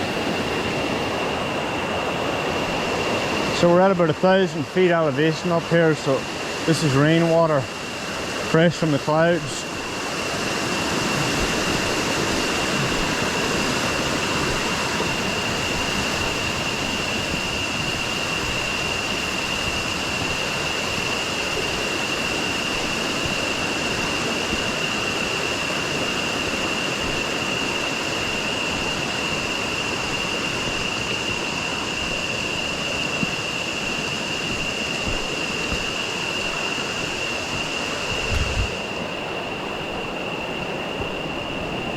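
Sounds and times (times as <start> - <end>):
water rushing over rocks: 0.0 - 39.7
high-pitched whine: 0.0 - 41.9.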